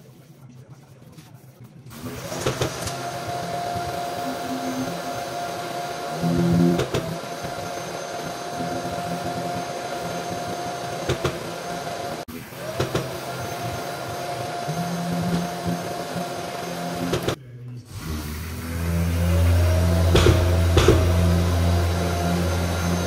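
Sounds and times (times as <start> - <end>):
power tool motor whining: 1.9 - 23.0.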